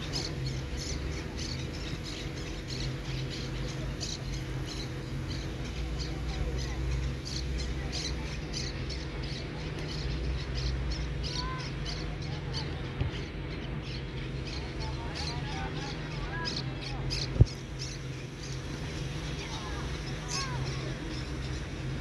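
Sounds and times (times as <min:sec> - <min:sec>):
faint distant voices: 0:00.0 - 0:22.0
low rumble of match ambience: 0:00.0 - 0:22.0.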